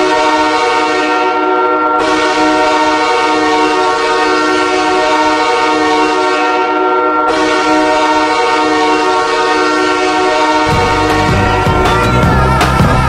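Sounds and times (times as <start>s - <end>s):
goal horn blast: 0.0s - 13.0s.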